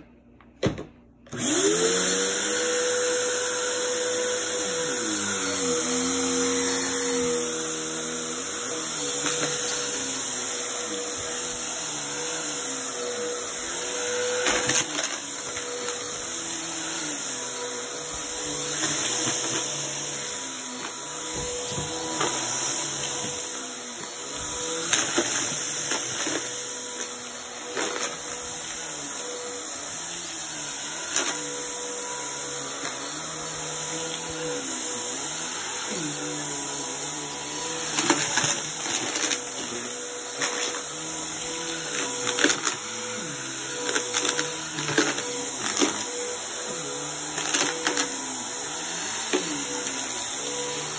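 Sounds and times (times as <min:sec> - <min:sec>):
vacuum cleaner running on carpet: 0:00.0 - 0:50.9.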